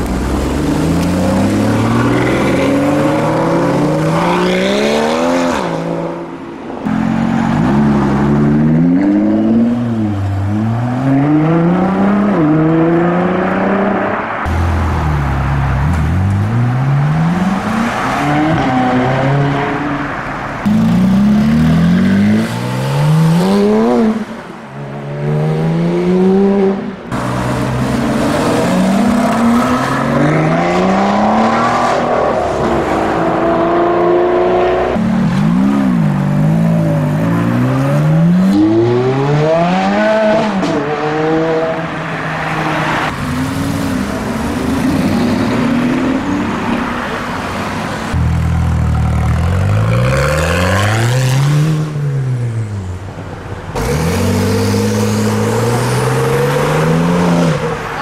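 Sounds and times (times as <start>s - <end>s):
car engines revving and accelerating: 0.0s - 58.0s.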